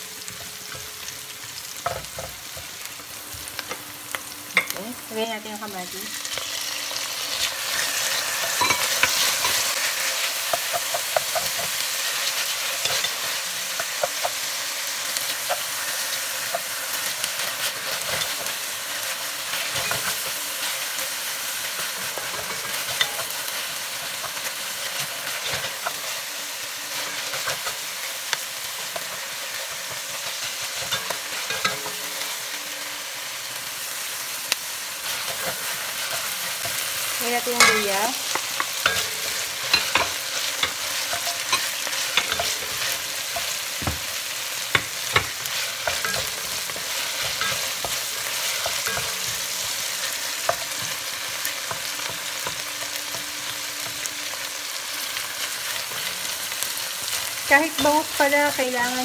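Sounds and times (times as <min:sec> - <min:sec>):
vegetables sizzling in hot oil: 0:00.0 - 0:59.0.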